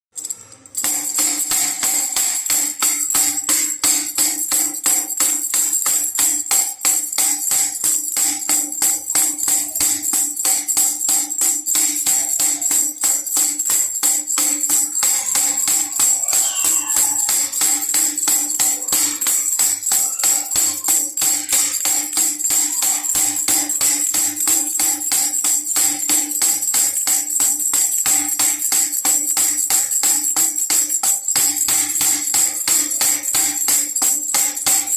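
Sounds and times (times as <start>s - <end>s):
baby rattle shaking: 0.1s - 34.9s.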